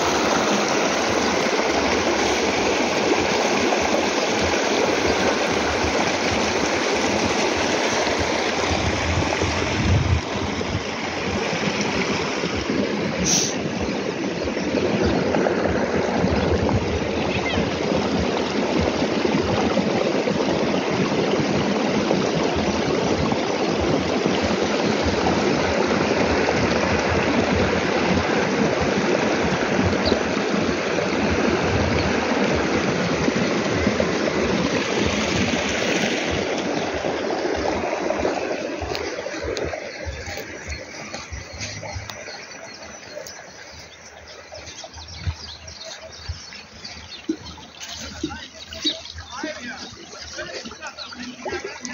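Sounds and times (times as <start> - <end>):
muddy water rushing: 0.0 - 51.9.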